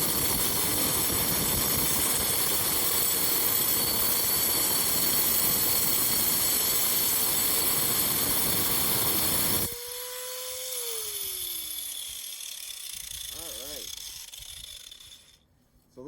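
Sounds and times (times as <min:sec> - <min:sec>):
angle grinder cutting stone: 0:00.0 - 0:15.4
grinder motor winding down: 0:00.0 - 0:15.4.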